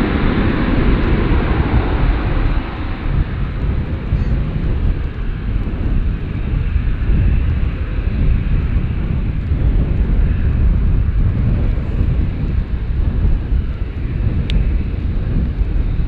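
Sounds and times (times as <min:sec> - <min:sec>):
airliner engines rumbling: 0:00.0 - 0:16.0.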